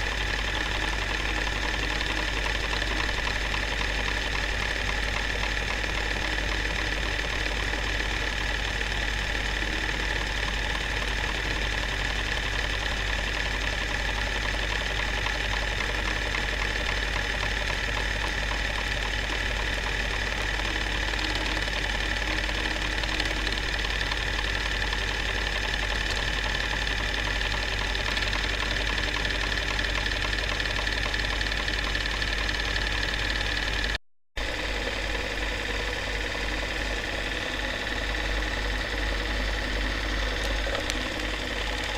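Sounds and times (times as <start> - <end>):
film projector clattering: 0.0 - 41.9.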